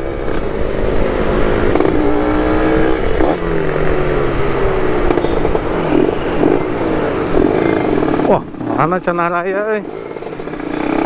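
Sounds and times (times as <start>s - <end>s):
motorcycle engines: 0.0s - 11.0s
road traffic: 0.0s - 11.0s
vehicle passing by: 0.0s - 11.0s.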